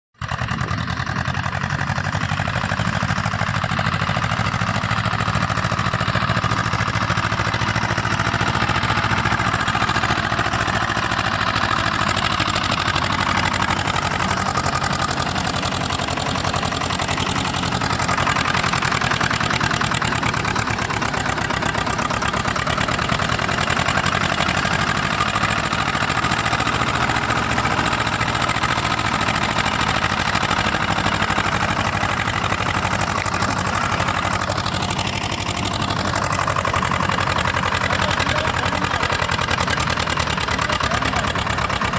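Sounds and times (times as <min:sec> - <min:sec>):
tractor diesel engine chugging: 0:00.2 - 0:41.9.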